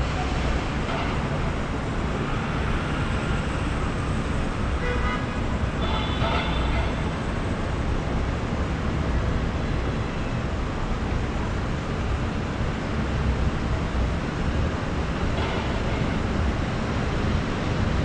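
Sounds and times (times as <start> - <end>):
city traffic din: 0.0 - 18.0.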